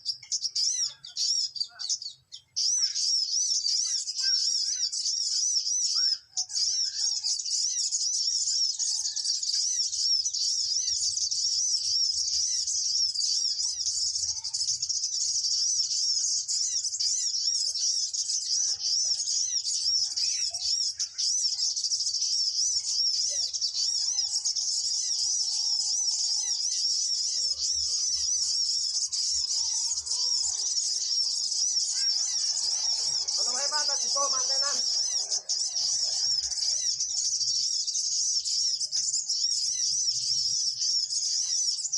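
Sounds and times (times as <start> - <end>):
high-pitched bird chirping: 0.0 - 41.9.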